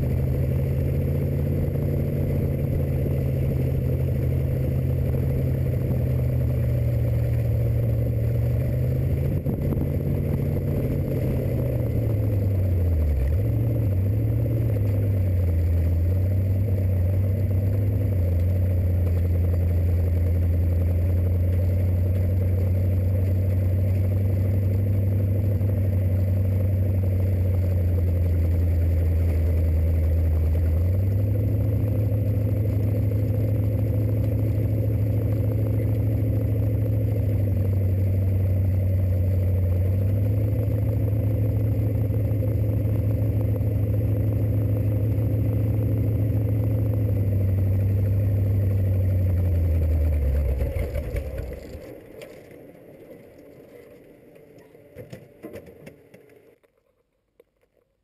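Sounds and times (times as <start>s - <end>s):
car engine running: 0.0s - 56.5s.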